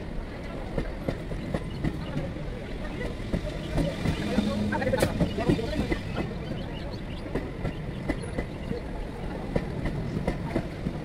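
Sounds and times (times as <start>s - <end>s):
train coaches rumbling past: 0.0s - 11.0s.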